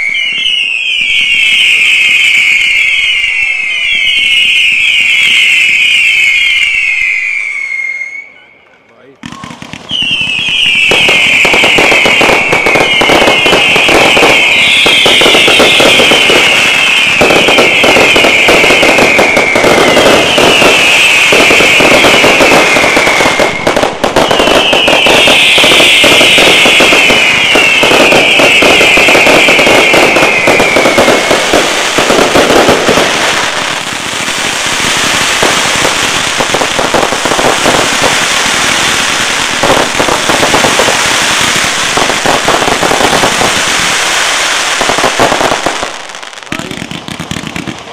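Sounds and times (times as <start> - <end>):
fireworks reports and crackling: 0.0 - 47.9
fireworks whistles falling in pitch: 0.0 - 47.9.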